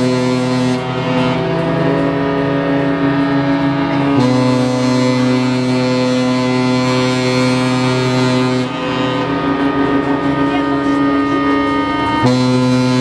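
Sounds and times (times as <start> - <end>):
ship horns blasting: 0.0 - 13.0.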